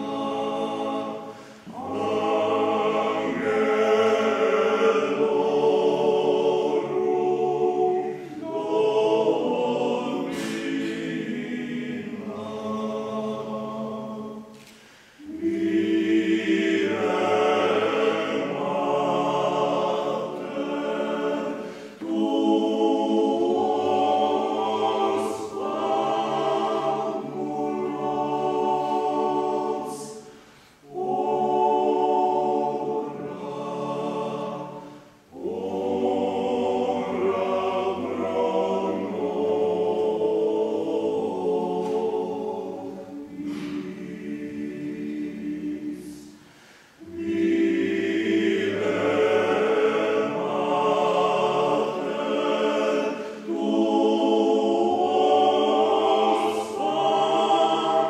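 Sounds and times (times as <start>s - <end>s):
male choir singing a cappella: 0.0s - 58.0s.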